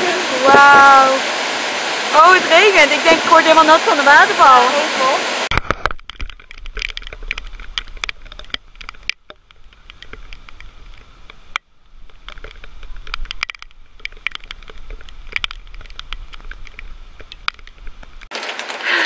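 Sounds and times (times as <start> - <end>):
rain pattering: 0.0 - 19.0
raindrops crackling on microphone: 0.0 - 19.0.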